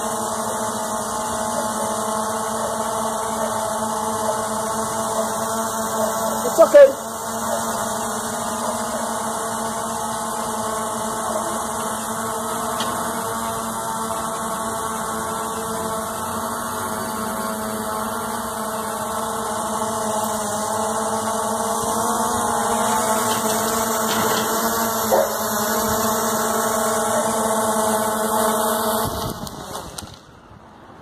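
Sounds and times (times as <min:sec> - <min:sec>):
drone propellers buzzing: 0:00.0 - 0:30.4.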